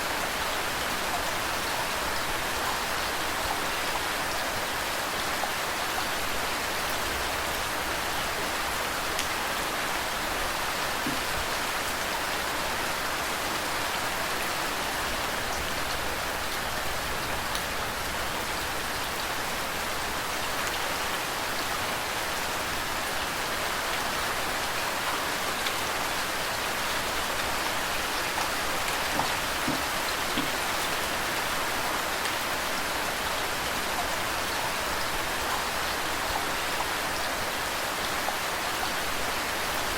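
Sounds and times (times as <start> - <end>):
flowing water: 0.0 - 39.9
steady rain falling: 0.0 - 39.9.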